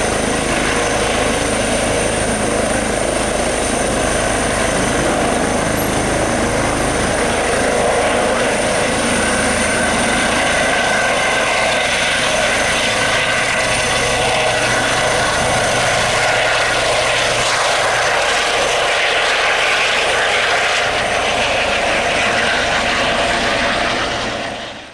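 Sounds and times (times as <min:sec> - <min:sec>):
helicopter rotors rushing: 0:00.0 - 0:24.9
helicopter turbine whine: 0:00.0 - 0:24.9.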